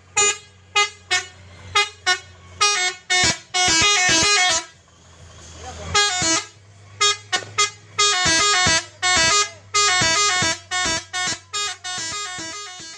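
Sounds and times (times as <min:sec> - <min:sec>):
multi-tone air horn tune: 0:00.1 - 0:04.7, 0:05.9 - 0:12.9.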